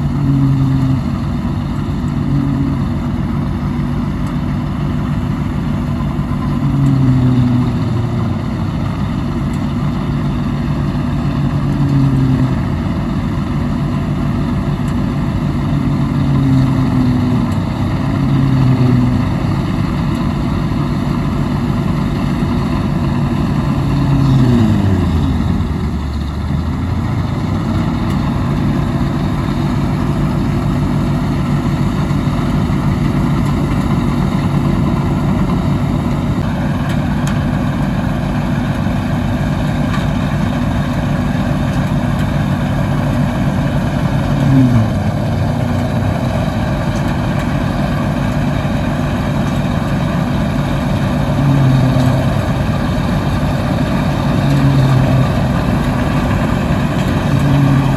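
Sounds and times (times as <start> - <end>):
combine harvester engine: 0.0 - 57.9.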